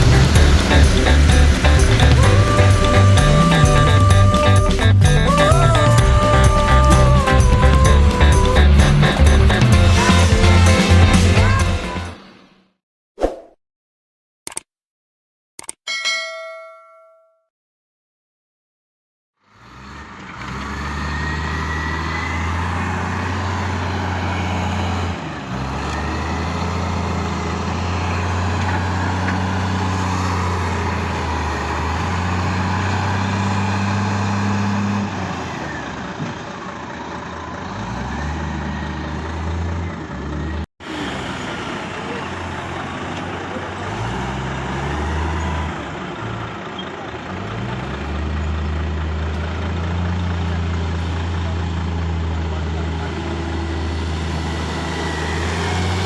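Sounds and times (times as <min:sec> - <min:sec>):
diesel machinery engine: 0:00.0 - 0:12.6, 0:19.5 - 0:56.0.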